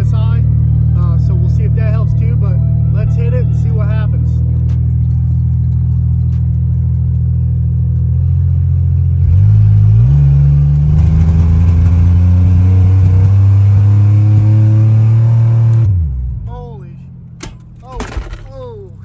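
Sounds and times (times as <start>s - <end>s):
pickup engine accelerating hard: 0.0s - 16.5s.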